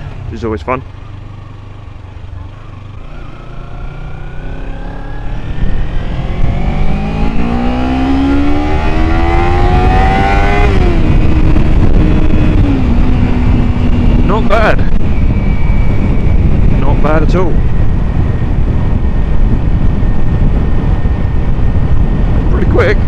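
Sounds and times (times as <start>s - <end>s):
motorcycle engine revving: 0.0s - 22.5s
wind rush: 3.8s - 23.0s.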